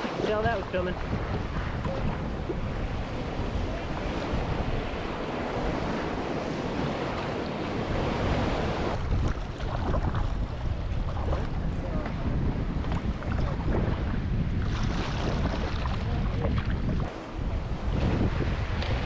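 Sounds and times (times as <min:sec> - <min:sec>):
ocean surf rushing: 0:00.0 - 0:16.2, 0:17.0 - 0:19.0
wind on microphone: 0:00.0 - 0:19.0.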